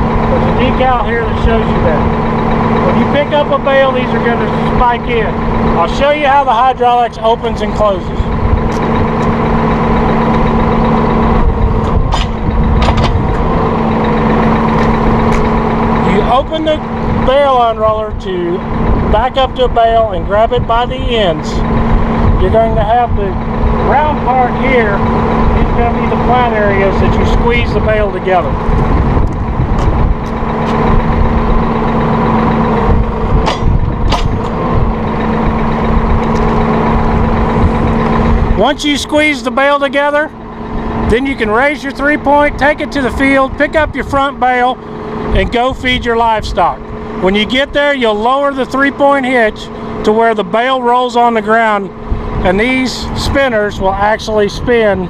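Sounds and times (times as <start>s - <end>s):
hydraulics moving arms: 0.0s - 55.0s
steady tone: 0.0s - 55.0s
tractor engine running: 0.0s - 55.0s.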